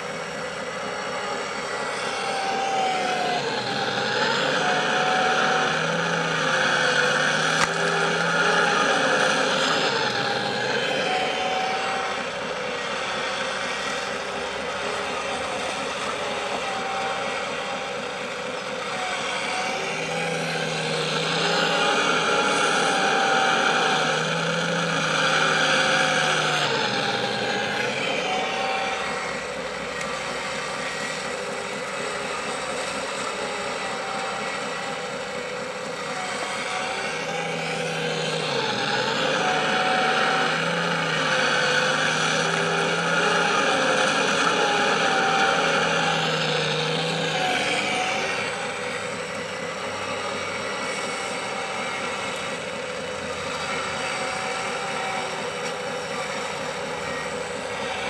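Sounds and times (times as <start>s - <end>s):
hydraulic pump whine: 0.0s - 58.0s.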